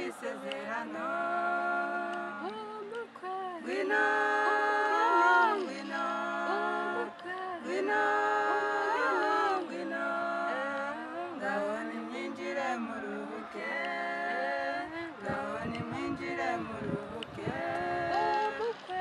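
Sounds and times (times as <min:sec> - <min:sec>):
women singing in harmony: 0:00.0 - 0:19.0.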